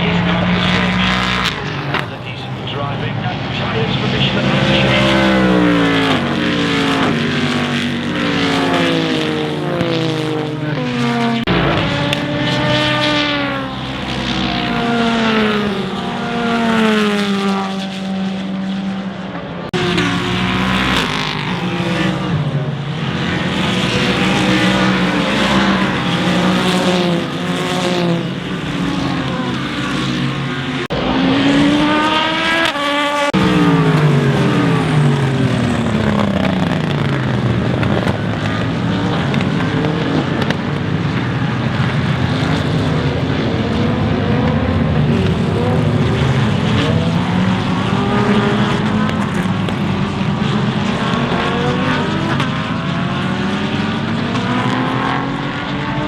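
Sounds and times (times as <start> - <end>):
race cars passing at speed: 0.0 - 56.0.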